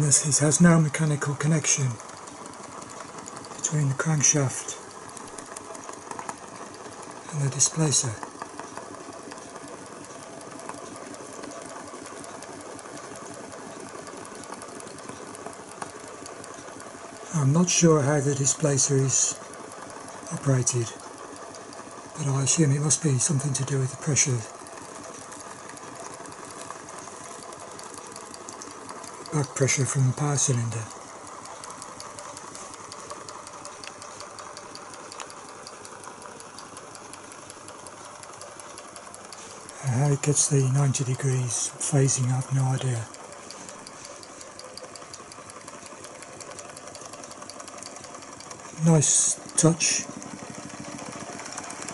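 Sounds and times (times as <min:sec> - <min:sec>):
toy engine mechanical clatter: 0:00.0 - 0:51.9.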